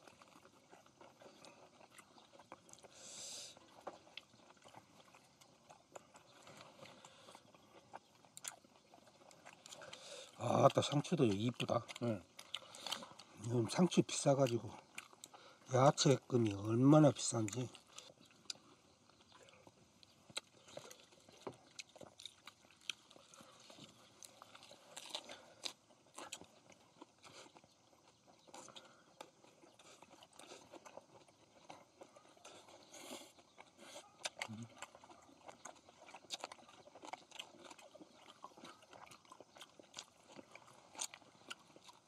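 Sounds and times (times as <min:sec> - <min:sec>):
people chewing: 0:00.0 - 0:42.0.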